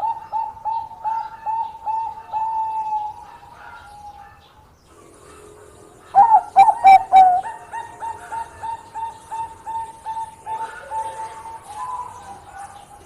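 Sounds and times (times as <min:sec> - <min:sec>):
dove cooing: 0:00.0 - 0:04.4, 0:05.1 - 0:13.0.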